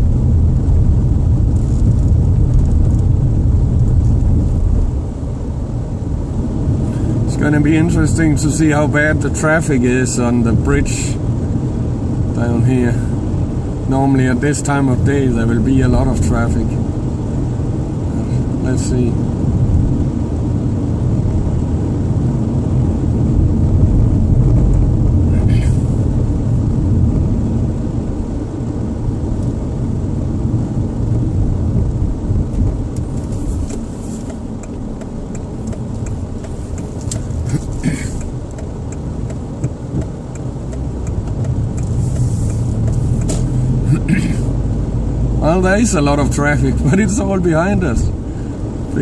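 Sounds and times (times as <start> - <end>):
road and engine noise in car: 0.0 - 49.0.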